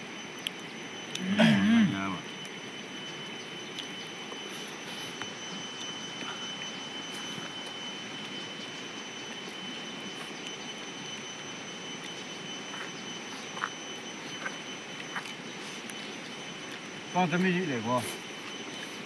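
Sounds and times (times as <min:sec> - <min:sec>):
high-pitched tone: 0:00.0 - 0:19.0.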